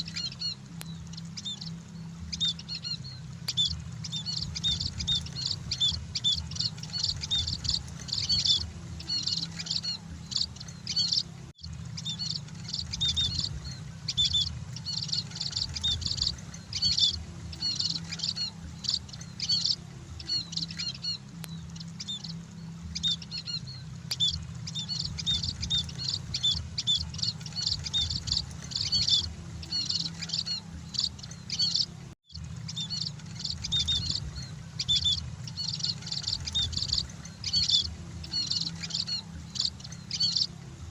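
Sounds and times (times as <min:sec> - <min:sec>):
birds twittering: 0:00.0 - 0:40.9
steady low hum: 0:00.0 - 0:40.9.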